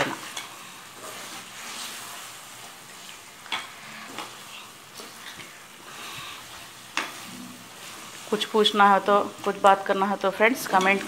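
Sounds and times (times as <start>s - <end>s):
chicken frying in a pot: 0.0s - 11.0s.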